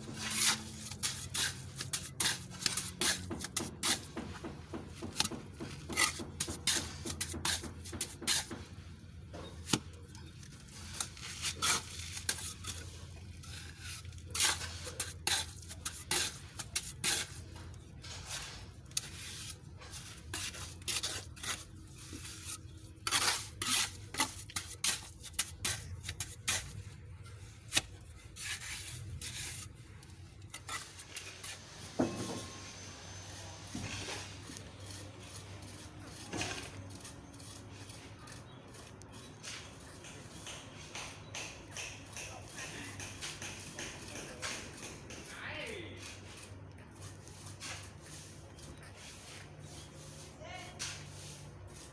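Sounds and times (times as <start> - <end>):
metal trowel scraping cement: 0.0 - 8.8, 9.4 - 40.5, 41.8 - 51.9.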